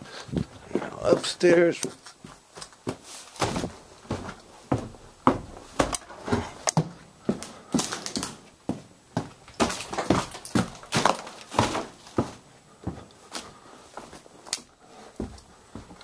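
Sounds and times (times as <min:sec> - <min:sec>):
footsteps on wooden stairs: 0:00.0 - 0:16.0.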